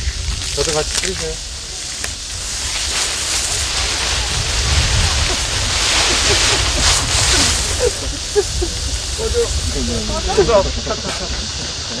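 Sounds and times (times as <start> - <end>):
low rumble: 0.0 - 11.9
water spraying hiss: 0.0 - 12.0.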